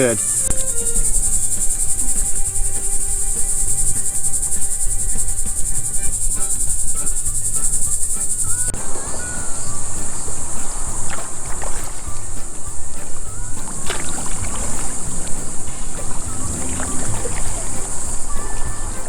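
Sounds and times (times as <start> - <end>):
insects buzzing: 0.0 - 19.0
low rhythmic pulsing: 0.0 - 19.0.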